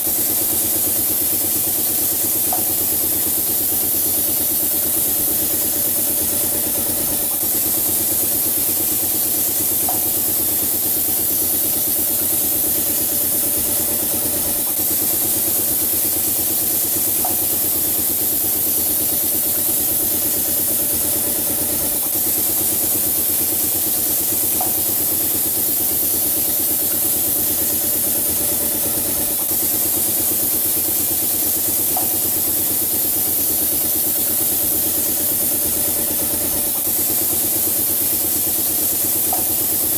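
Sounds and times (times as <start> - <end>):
spray gun hissing: 0.0 - 39.9
machine humming: 2.4 - 39.9.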